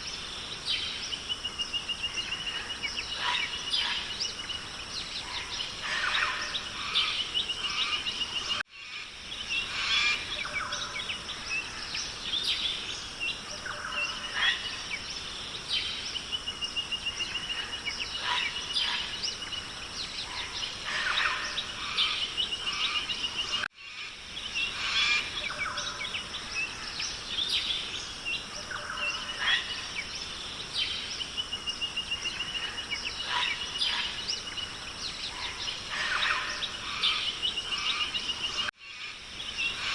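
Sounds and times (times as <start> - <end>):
birds calling: 0.0 - 39.9
steady hiss: 0.0 - 39.9.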